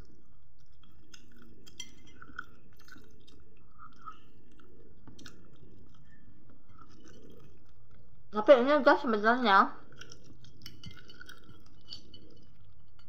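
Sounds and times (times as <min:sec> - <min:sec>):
person chewing food: 0:00.0 - 0:08.3, 0:09.8 - 0:13.0.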